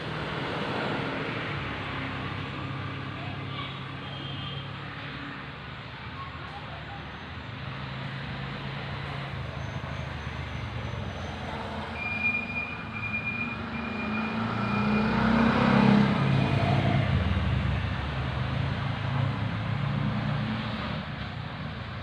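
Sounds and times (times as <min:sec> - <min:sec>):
vehicle engine hum passing: 0:00.0 - 0:22.0.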